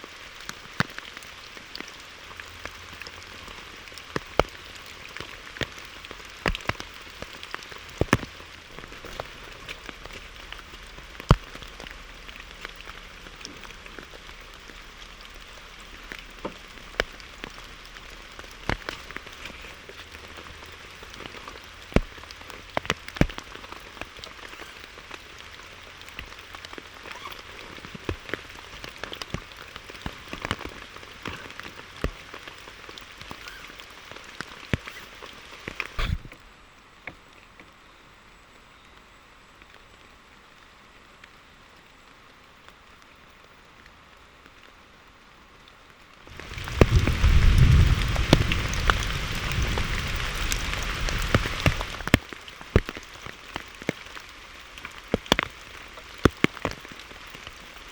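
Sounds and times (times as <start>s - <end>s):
rain falling on a surface: 0.0s - 57.9s
single raindrops striking: 0.4s - 36.4s, 46.2s - 57.8s.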